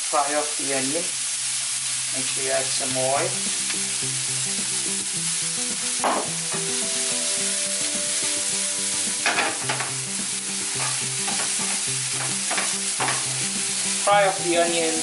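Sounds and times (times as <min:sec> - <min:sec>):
onions sizzling in a frying pan: 0:00.0 - 0:15.0
soft background music: 0:02.8 - 0:15.0.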